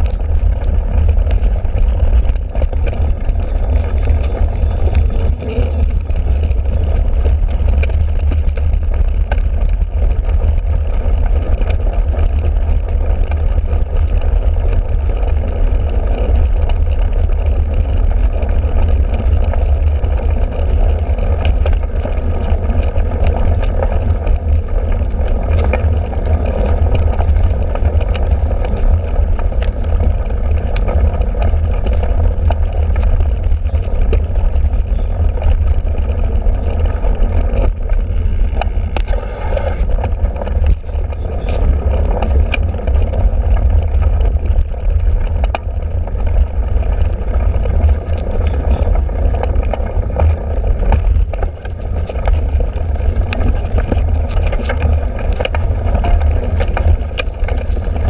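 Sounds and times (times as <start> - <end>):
bike knocks and rattles: 0.0 - 58.0
bike tyres rumbling on grass: 0.0 - 58.0
wind buffeting microphone: 0.0 - 58.0.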